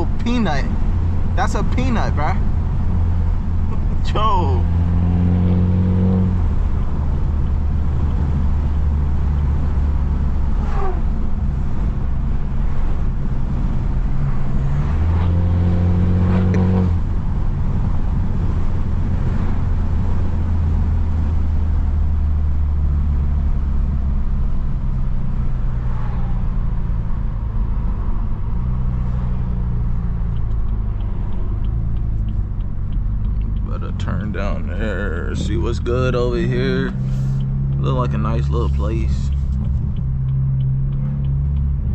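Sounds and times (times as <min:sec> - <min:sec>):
car exhaust droning: 0:00.0 - 0:41.9.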